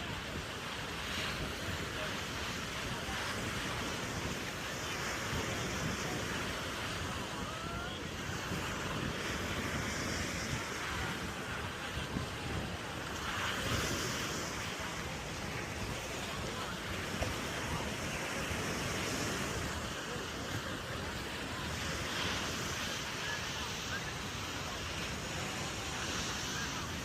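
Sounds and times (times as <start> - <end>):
wind buffeting microphone: 0.0 - 22.9
surf washing onto beach: 0.0 - 27.0.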